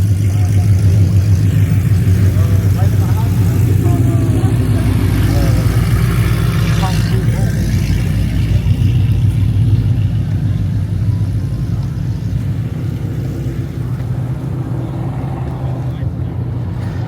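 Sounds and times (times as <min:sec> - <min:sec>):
car engine with loud exhaust: 0:00.0 - 0:17.0.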